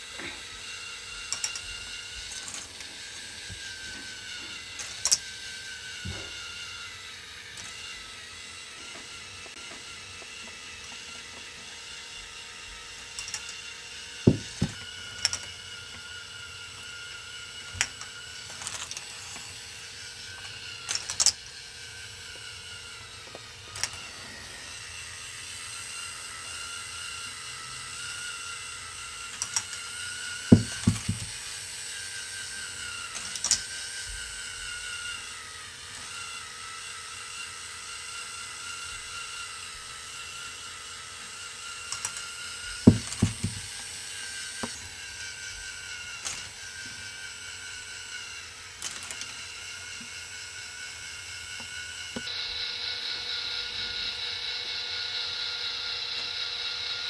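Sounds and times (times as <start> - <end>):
small electric motor whine: 0.0 - 57.0.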